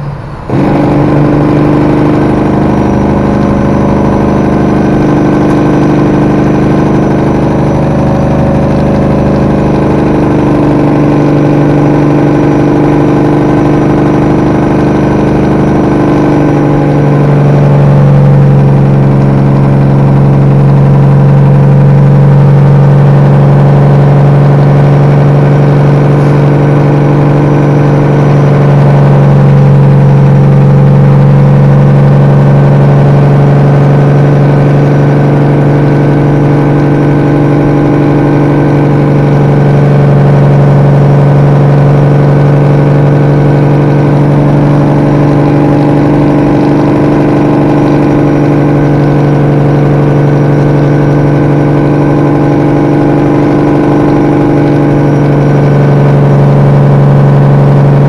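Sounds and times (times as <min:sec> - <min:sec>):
truck engine brake exhaust: 0:00.0 - 0:58.0.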